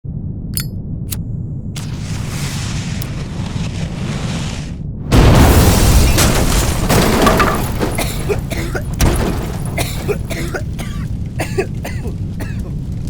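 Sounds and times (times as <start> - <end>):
fireworks blast: 1.7 - 13.0
fireworks cracks and pops: 1.8 - 13.0.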